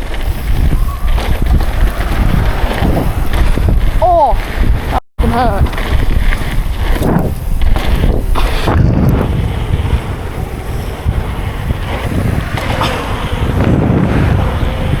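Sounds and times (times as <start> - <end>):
bike tyres rumbling on dirt trail: 0.0 - 15.0
wind buffeting microphone: 0.0 - 15.0.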